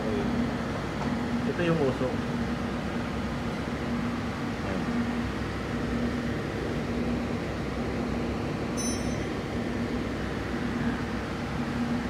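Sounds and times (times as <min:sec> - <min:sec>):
machine hum with low rumble: 0:00.0 - 0:12.0.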